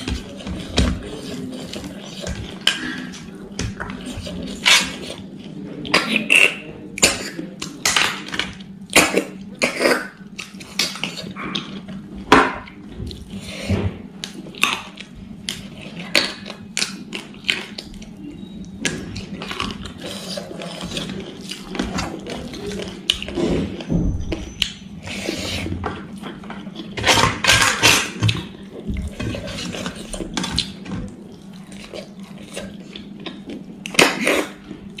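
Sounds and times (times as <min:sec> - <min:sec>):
crunchy chewing: 0:00.0 - 0:24.4, 0:25.0 - 0:35.0.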